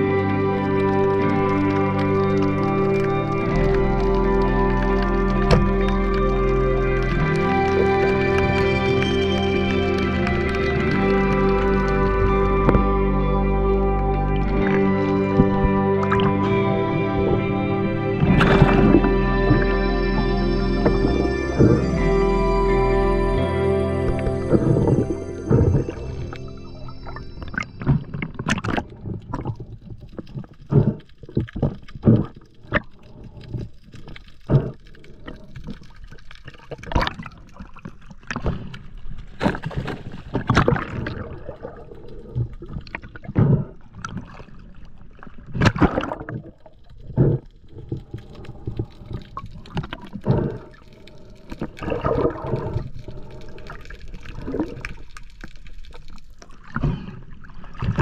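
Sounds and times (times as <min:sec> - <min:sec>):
water sloshing and gurgling: 0:00.0 - 0:58.0.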